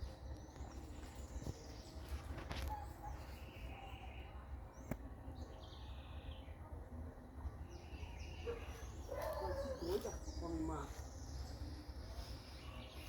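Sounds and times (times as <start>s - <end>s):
faint high bird chirps: 0.0s - 6.7s, 7.4s - 13.0s.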